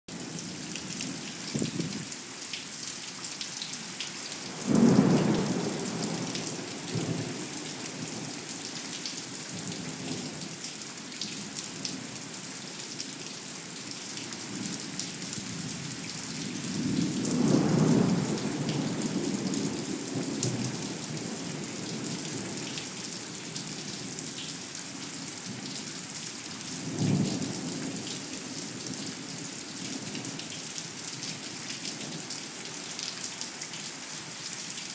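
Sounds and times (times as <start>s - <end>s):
steady rain hissing: 0.2s - 34.9s.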